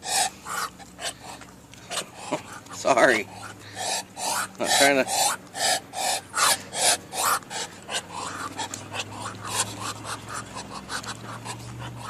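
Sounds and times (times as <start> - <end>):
duck hissing: 0.0 - 12.0.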